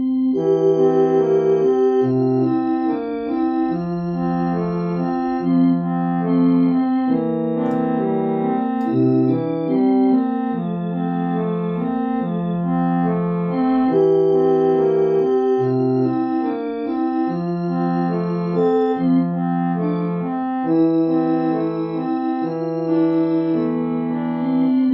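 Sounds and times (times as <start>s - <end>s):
electronic keyboard slow tune: 0.0s - 24.9s.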